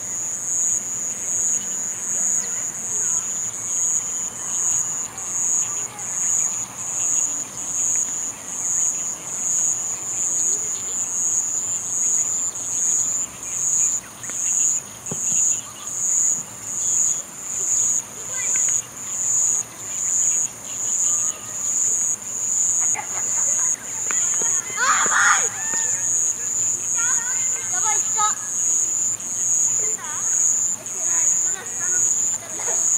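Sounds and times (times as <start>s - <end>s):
insect buzzing song: 0.0s - 32.9s.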